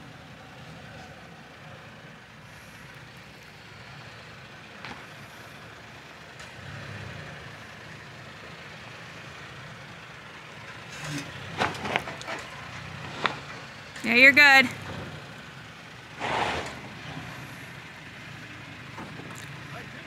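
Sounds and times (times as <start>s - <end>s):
truck engine crawling: 0.0s - 20.0s.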